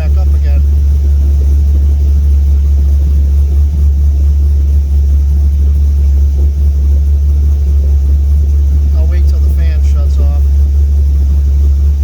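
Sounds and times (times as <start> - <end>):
car engine idling: 0.0 - 12.0
radiator cooling fan running: 0.0 - 12.0.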